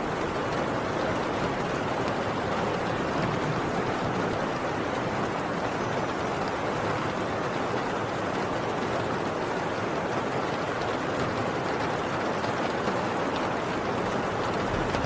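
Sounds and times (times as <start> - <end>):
heavy rain on a tin roof: 0.0 - 15.0.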